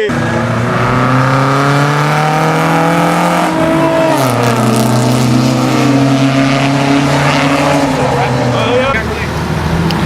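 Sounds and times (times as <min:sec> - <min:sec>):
car engine running hard: 0:00.0 - 0:10.0.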